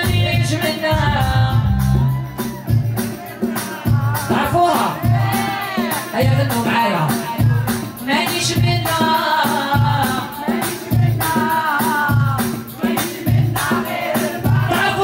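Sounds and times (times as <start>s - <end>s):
woman singing into microphone: 0.0s - 2.4s, 3.9s - 15.0s.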